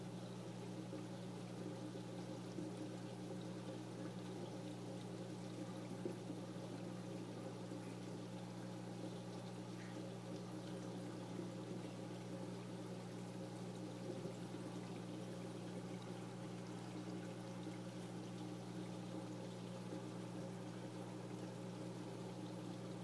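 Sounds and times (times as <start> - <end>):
low constant hum: 0.0 - 23.0
water trickling and pouring: 0.0 - 23.0.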